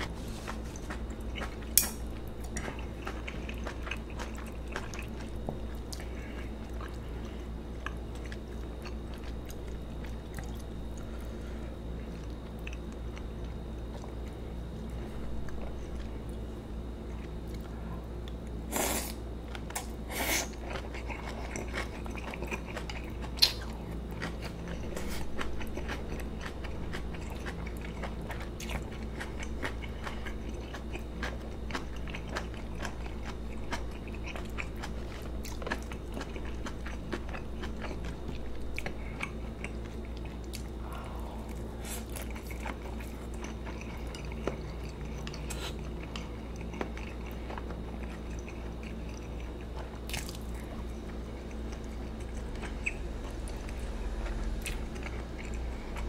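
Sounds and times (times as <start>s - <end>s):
close chewing with mouth sounds: 0.0s - 56.0s.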